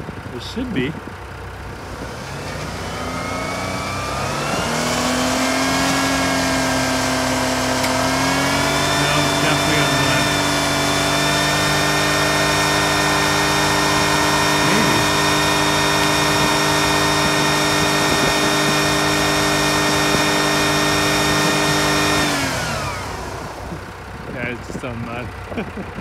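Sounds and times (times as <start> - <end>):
engine revving high: 1.7 - 26.0
wheels spinning in snow: 1.7 - 26.0.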